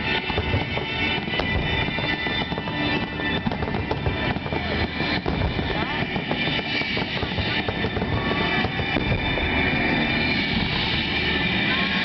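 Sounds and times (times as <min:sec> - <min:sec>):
fireworks bursting: 0:00.0 - 0:12.0
fireworks crackling: 0:00.0 - 0:12.0.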